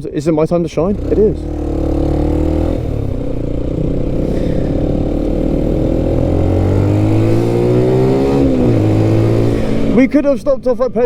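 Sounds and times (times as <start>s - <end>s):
motorcycle engine accelerating: 0.5s - 10.4s.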